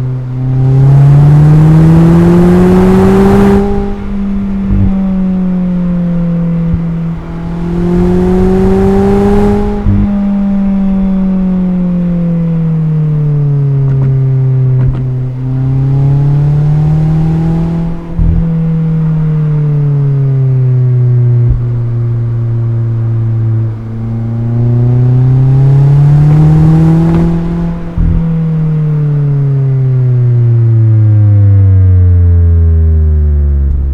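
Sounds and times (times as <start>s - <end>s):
car engine and exhaust revving: 0.0s - 33.9s.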